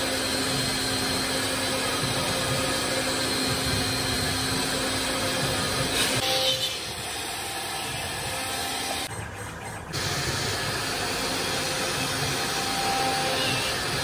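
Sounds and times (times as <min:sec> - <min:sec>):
router cutting wood: 0:00.0 - 0:14.0.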